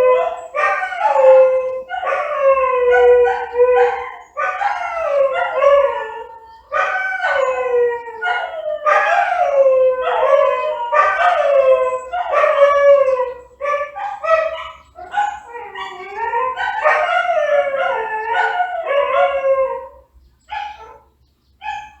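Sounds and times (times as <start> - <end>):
dog howling: 0.0 - 20.0.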